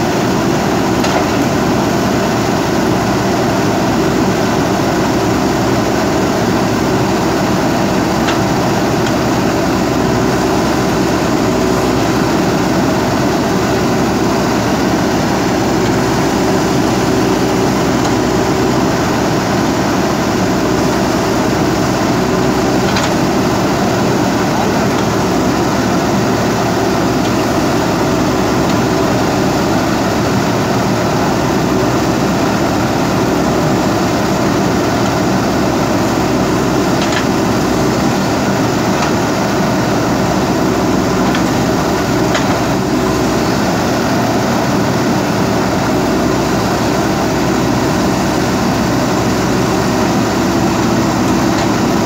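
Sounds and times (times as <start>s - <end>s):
diesel engine running: 0.0s - 52.0s
backhoe arm digging: 0.1s - 44.5s, 46.1s - 52.0s.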